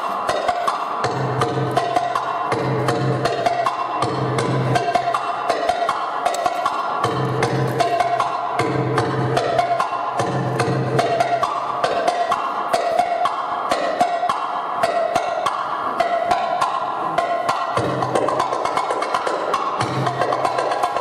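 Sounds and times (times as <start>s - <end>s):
belly-dance music: 0.0s - 21.0s
sharp percussion rhythm: 0.0s - 21.0s.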